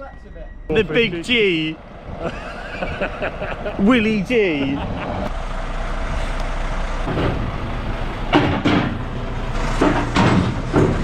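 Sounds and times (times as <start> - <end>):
diesel truck engine running: 0.7 - 11.0.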